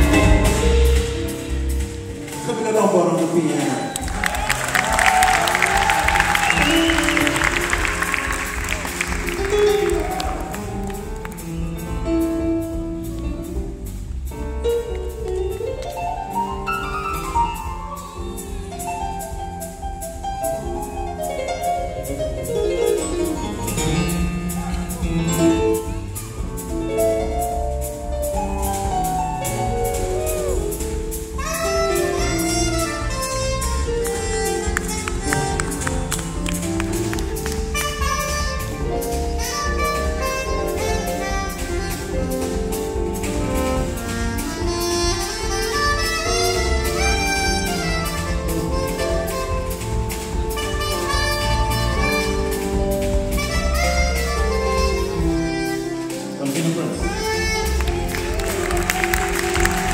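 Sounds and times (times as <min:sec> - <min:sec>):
drums with steady beat: 0:00.0 - 0:59.9
jazz band playing: 0:00.0 - 0:59.9
saxophone melody: 0:04.0 - 0:12.6, 0:15.6 - 0:59.9.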